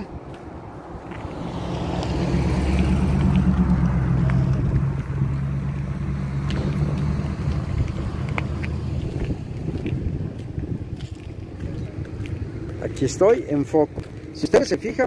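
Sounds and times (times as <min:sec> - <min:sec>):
vehicle engine running: 0:01.0 - 0:15.0.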